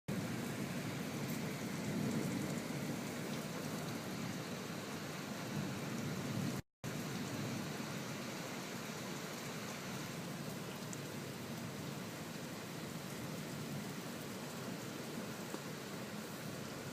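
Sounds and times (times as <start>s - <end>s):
steady rain: 0.1s - 16.9s.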